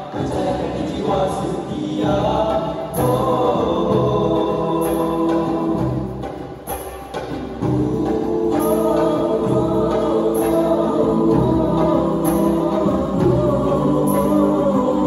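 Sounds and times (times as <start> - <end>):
male voices singing in harmony: 0.0 - 6.8, 7.4 - 15.0
high percussion strikes: 0.0 - 15.0.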